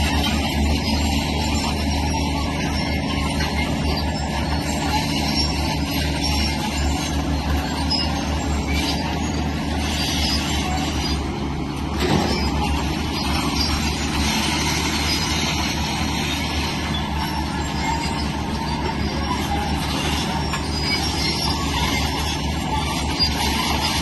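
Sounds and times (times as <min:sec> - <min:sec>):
bulldozer diesel engine running hard: 0:00.0 - 0:24.0.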